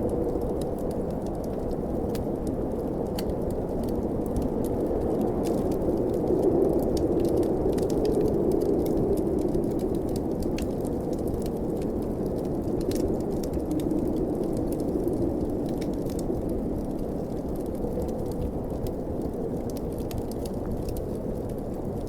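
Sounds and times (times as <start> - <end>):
snowstorm wind blowing: 0.0 - 22.0
wood fire crackling: 0.0 - 22.0.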